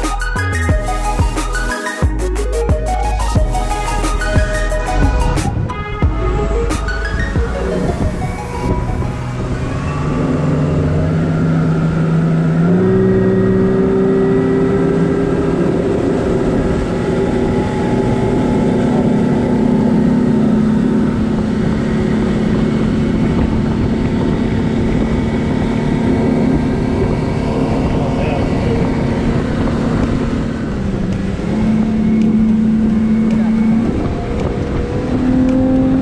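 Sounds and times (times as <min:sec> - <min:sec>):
outboard motor accelerating: 0:00.0 - 0:36.0.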